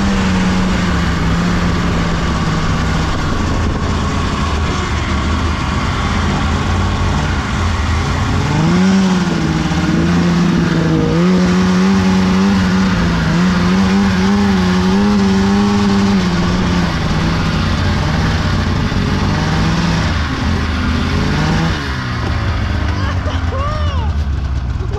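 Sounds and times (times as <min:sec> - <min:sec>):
snowmobile engine revving: 0:00.0 - 0:24.9.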